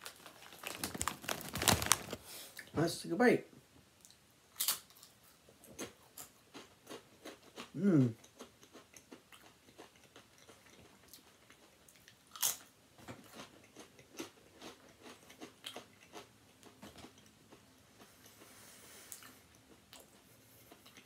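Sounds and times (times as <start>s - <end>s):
person chewing food: 4.0s - 21.0s.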